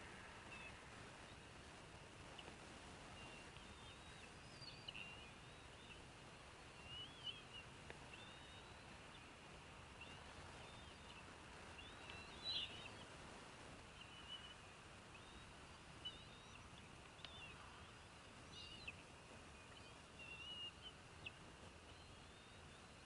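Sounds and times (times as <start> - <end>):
faint bird chirps: 3.1 - 13.1, 13.9 - 23.0.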